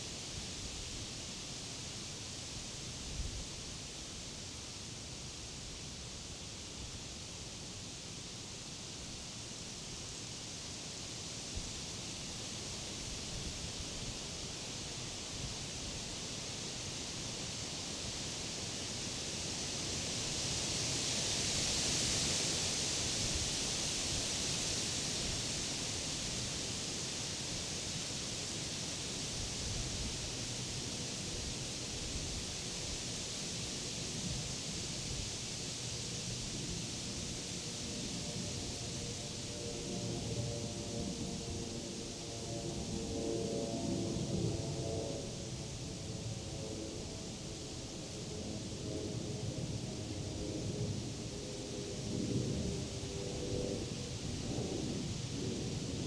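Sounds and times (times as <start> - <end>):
wind rustling leaves: 8.8 - 42.9, 44.1 - 56.0.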